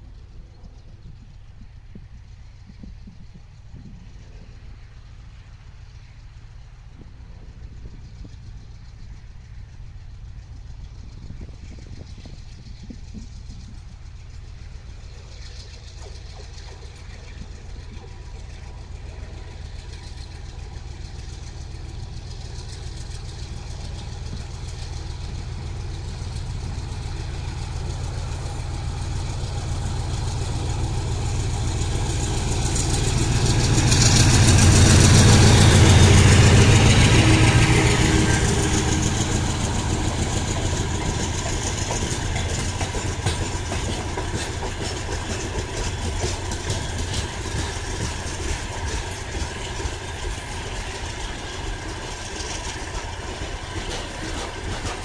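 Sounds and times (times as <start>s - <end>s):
diesel locomotive engine hum: 0.0s - 55.0s
freight wagon wheels rumbling on rails: 0.0s - 55.0s.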